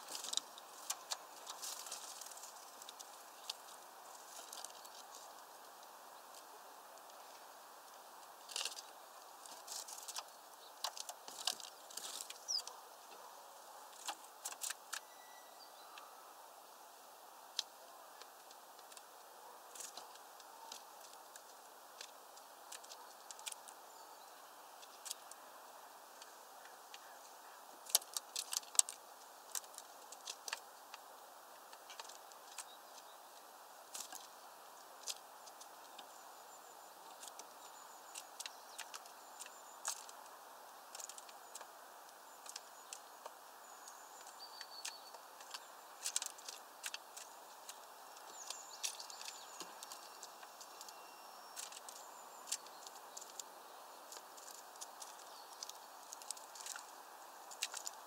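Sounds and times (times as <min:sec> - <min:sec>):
faint steady hiss: 0:00.0 - 0:58.0.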